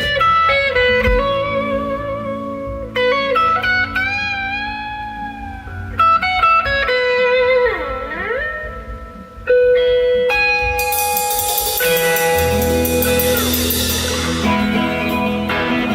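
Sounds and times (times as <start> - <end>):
electric guitar sustained notes: 0.0 - 15.9
rock band playing: 0.0 - 15.9.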